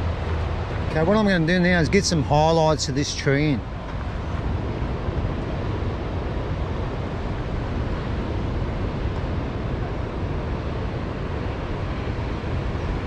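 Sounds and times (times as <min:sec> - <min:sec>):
surf washing on beach: 0:00.0 - 0:13.0
wind rumbling on microphone: 0:00.0 - 0:13.0.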